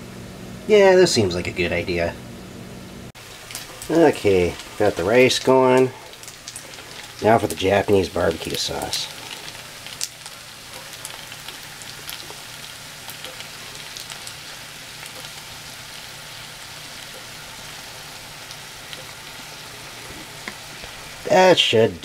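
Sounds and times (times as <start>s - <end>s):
food sizzling in frying pan: 3.1s - 22.0s.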